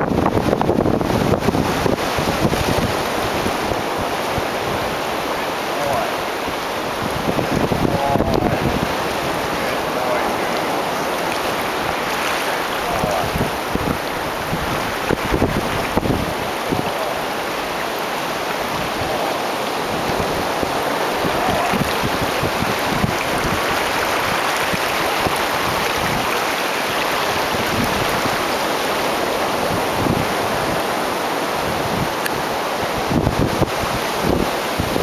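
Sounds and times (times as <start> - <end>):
ocean surf washing: 0.0 - 35.0
wind buffeting microphone: 0.0 - 35.0.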